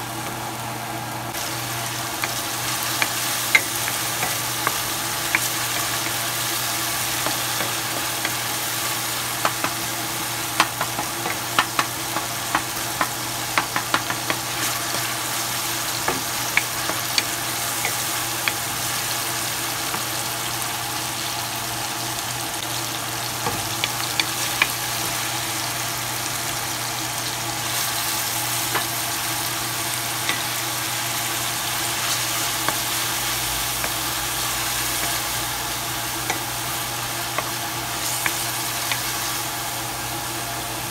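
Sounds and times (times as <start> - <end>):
onions and tomatoes sizzling: 0.0 - 40.9.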